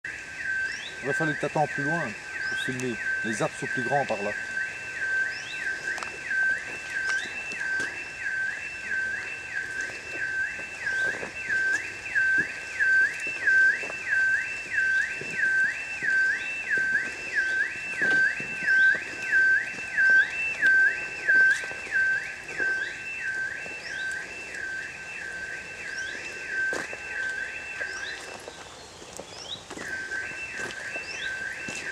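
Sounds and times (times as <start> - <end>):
electronic alarm sweeping tone: 0.0 - 28.7, 29.5 - 31.9.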